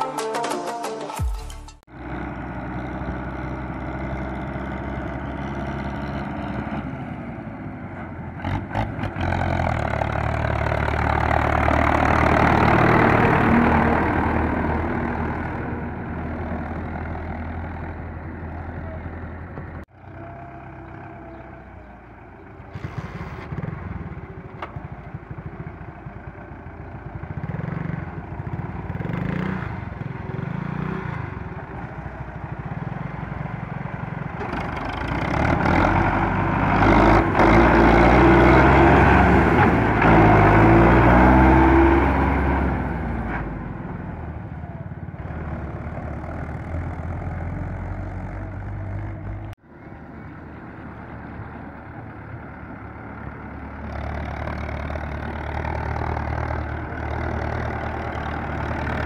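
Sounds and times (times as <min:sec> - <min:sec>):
diesel tractor engine: 0:01.1 - 0:59.0.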